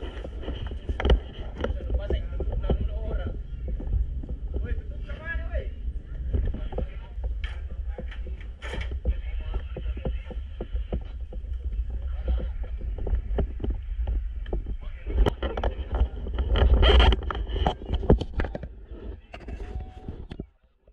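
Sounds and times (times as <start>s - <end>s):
wind buffeting microphone: 0.0s - 20.5s
microphone handling clicks and knocks: 0.0s - 20.6s.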